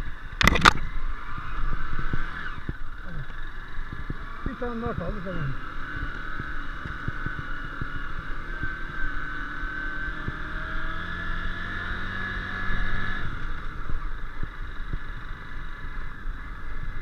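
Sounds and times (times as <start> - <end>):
motorcycle engine running: 0.0 - 17.0
motorcycle rattling over bumps: 0.0 - 17.0.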